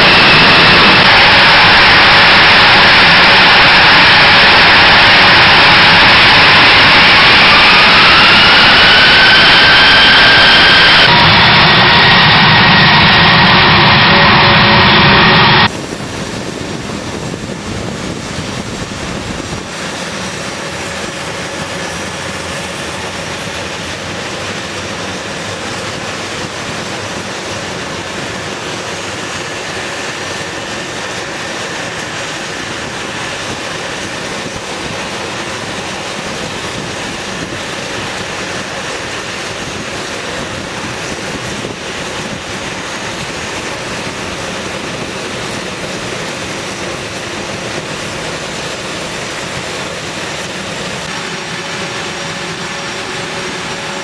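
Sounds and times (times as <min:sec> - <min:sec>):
jet engine hiss and whine: 0:00.0 - 0:54.0.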